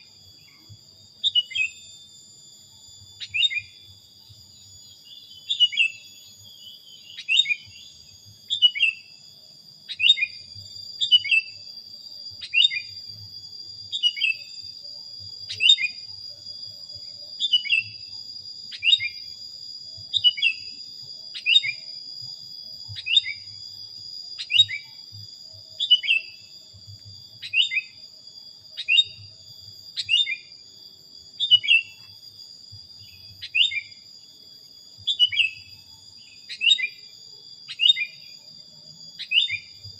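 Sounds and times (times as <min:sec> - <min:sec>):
steady high-pitched whine: 0:00.0 - 0:39.9.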